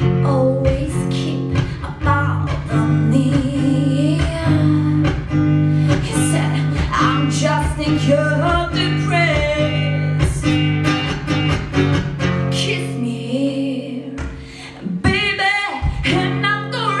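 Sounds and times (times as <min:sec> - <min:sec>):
woman singing: 0:00.0 - 0:10.6, 0:12.4 - 0:17.0
strummed guitar: 0:00.0 - 0:17.0.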